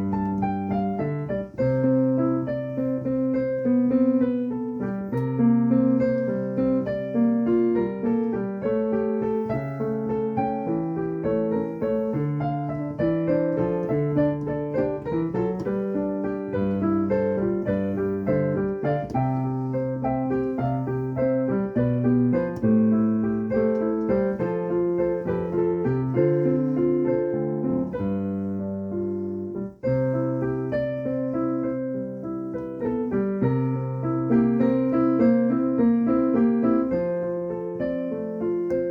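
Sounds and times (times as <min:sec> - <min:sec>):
solo piano playing: 0:00.0 - 0:38.9.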